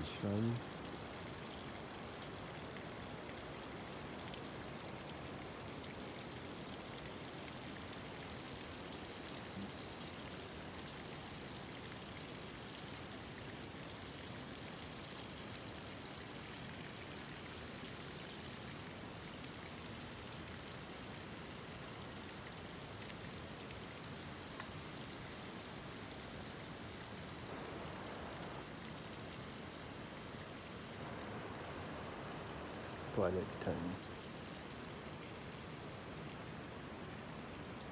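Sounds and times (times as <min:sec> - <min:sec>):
stream rushing over rocks: 0:00.0 - 0:37.9.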